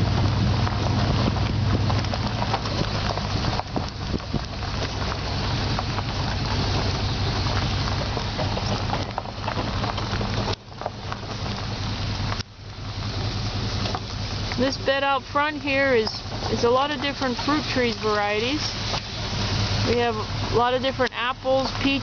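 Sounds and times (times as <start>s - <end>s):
noisy rustle: 0.0s - 22.0s
vehicle engine while driving: 0.0s - 22.0s.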